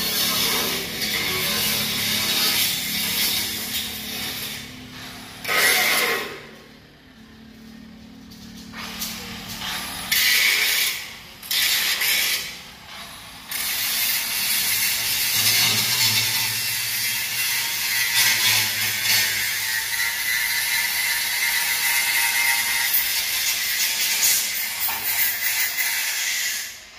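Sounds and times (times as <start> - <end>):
angle grinder grinding steel: 0.0 - 6.7, 8.7 - 26.9.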